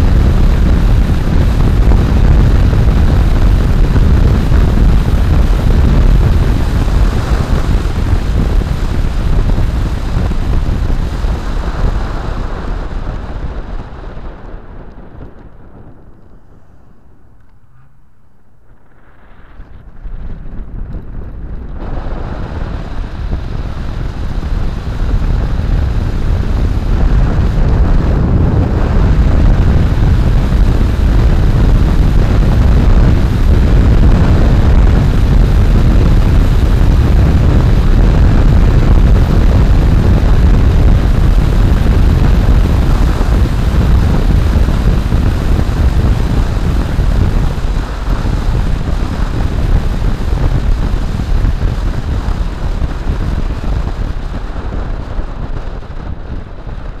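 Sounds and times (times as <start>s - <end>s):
wind rushing on microphone: 0.0s - 57.0s.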